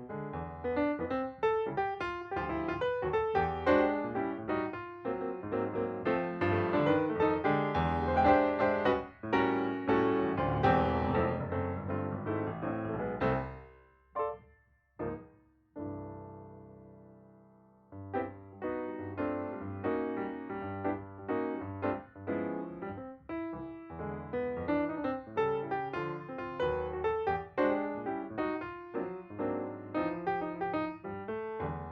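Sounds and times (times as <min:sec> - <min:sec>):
piano music: 0:00.0 - 0:31.9.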